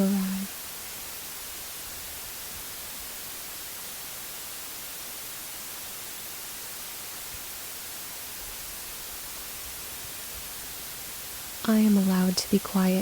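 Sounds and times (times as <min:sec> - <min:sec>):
steady white noise hiss: 0:00.0 - 0:13.0.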